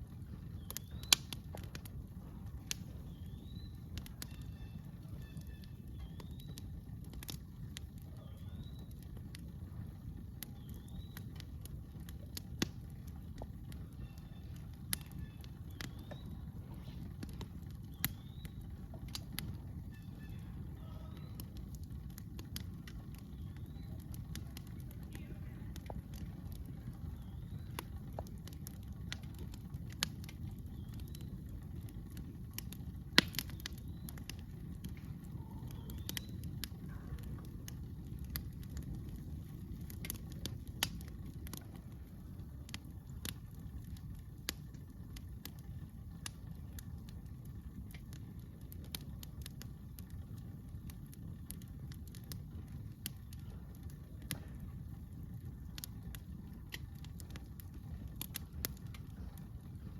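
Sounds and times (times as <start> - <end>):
campfire crackling and popping: 0.0 - 59.9
low rumble: 0.0 - 59.9.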